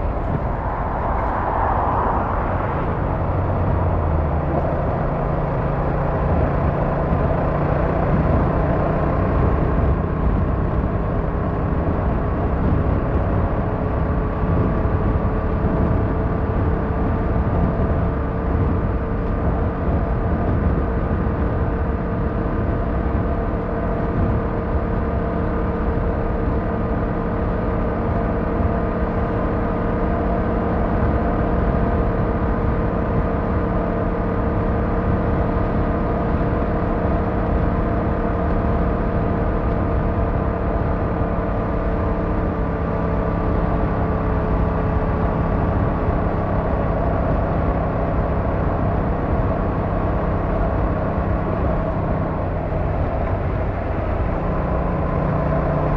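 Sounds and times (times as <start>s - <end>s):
vehicle road and engine noise: 0.0s - 55.9s.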